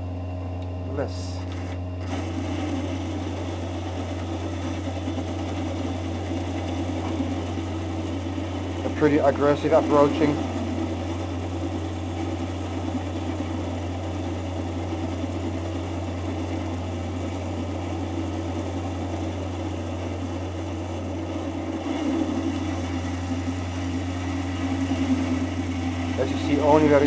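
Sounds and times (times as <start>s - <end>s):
lathe motor hum: 0.6s - 27.0s.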